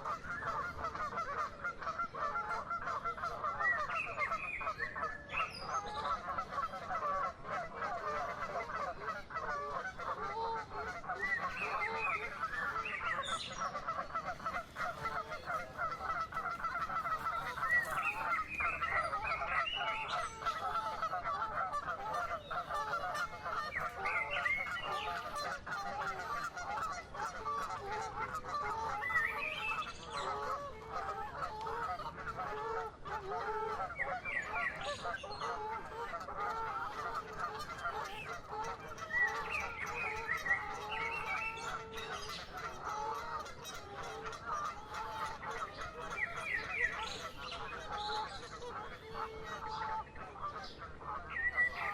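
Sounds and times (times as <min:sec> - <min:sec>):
waterbirds honking: 0:00.0 - 0:51.9.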